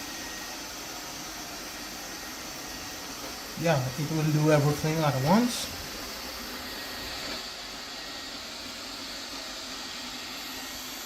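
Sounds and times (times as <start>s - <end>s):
robot vacuum rushing noise: 0.0s - 11.0s.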